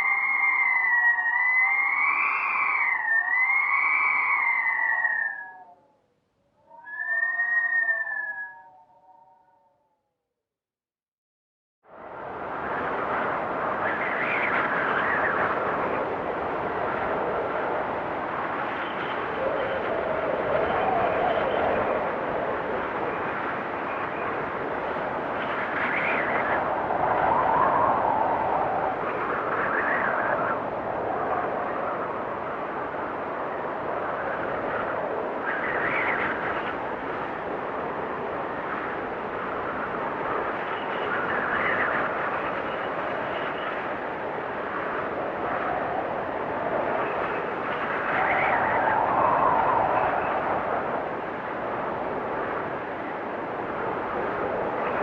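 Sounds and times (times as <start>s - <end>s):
blizzard wind whistling: 0.0s - 10.1s, 11.8s - 55.0s.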